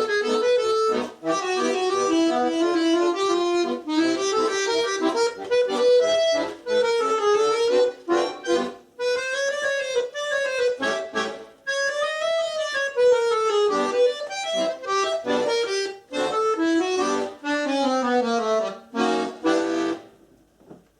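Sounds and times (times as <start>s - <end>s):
solo accordion ragtime piece: 0.0s - 20.2s.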